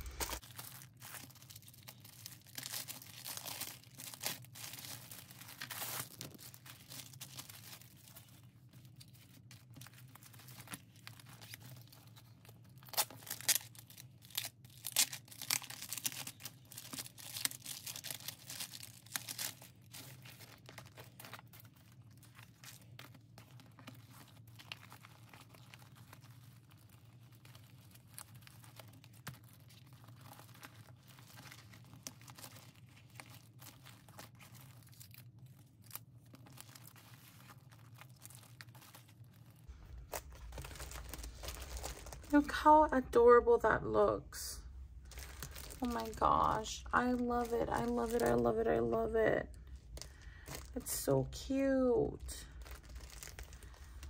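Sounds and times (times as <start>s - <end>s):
packaging crinkling and rustling: 0.0s - 54.0s.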